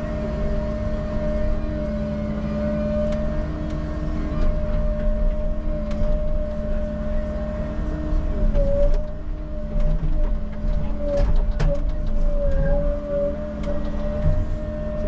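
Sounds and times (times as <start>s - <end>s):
diesel engine rumble with whine: 0.0s - 15.0s.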